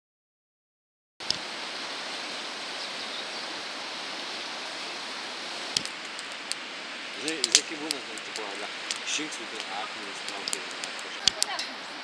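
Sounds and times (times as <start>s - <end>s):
river flowing: 1.2s - 12.0s.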